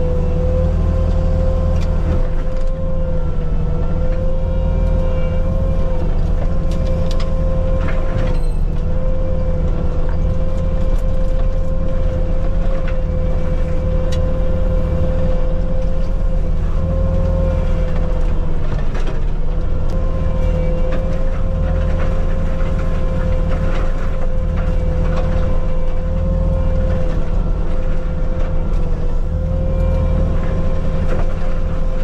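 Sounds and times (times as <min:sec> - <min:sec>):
diesel engine rumble: 0:00.0 - 0:32.0
mulcher disc whining: 0:00.0 - 0:32.0.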